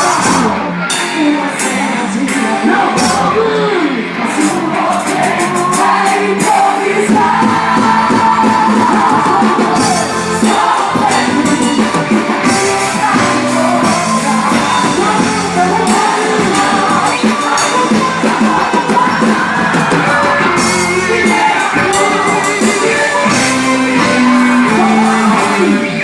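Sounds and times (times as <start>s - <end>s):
loud music with singing: 0.0s - 26.0s
percussion hits: 0.0s - 26.0s.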